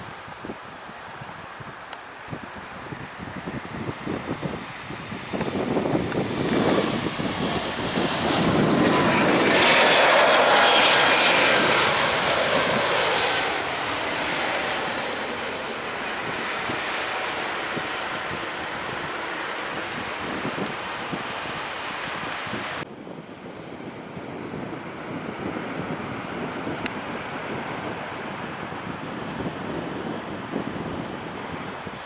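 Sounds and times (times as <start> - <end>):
airliner engines overhead: 0.0 - 32.0.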